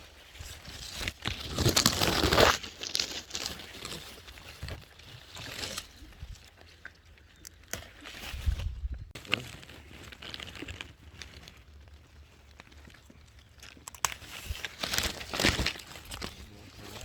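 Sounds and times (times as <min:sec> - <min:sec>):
rustling and crinkling of plants: 0:00.0 - 0:17.0.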